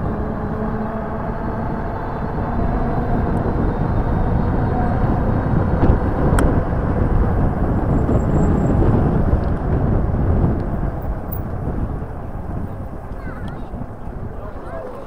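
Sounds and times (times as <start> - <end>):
wind and tyre noise: 0.0 - 15.0.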